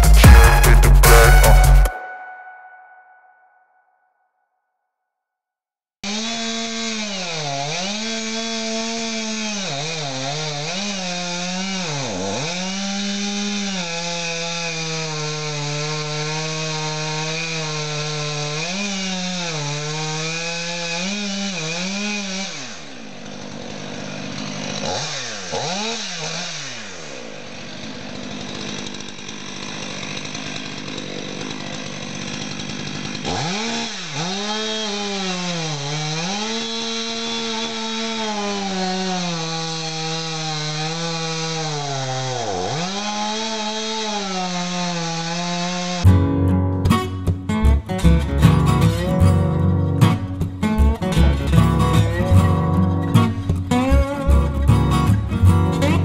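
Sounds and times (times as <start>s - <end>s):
chainsaw cutting log: 6.0s - 56.0s.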